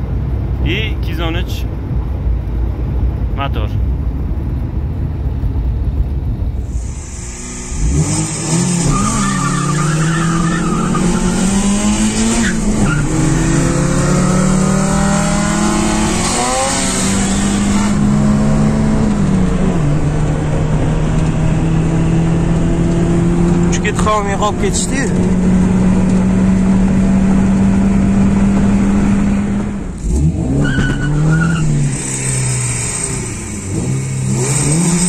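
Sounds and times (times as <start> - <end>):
road and wind noise: 0.0 - 35.0
car engine accelerating: 3.9 - 35.0.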